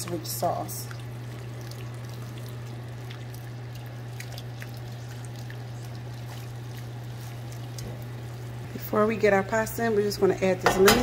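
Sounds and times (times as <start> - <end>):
sauce simmering in a pan: 0.0 - 9.9
steady low hum: 0.0 - 11.0.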